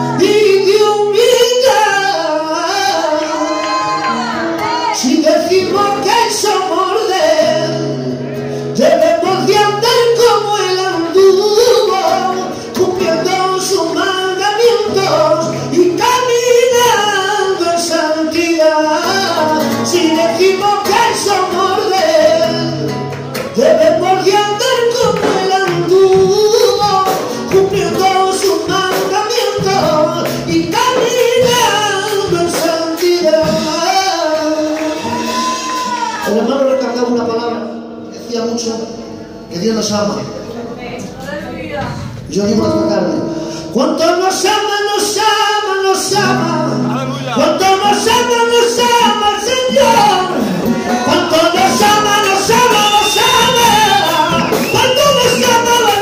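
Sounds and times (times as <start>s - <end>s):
man singing into a microphone: 0.0s - 40.2s, 42.2s - 56.0s
acoustic guitar: 0.0s - 56.0s.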